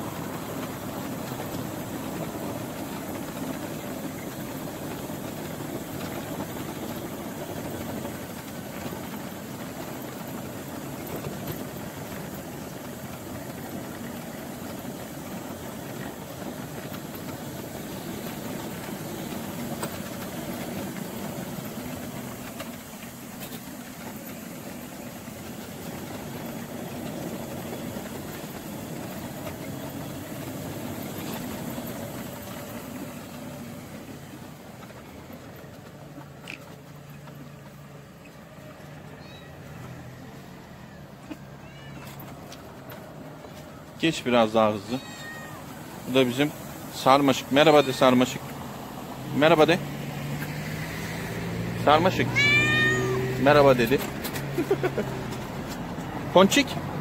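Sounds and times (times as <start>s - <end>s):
tyres on paving stones: 0.0s - 57.0s
wheelchair motors droning: 0.0s - 57.0s.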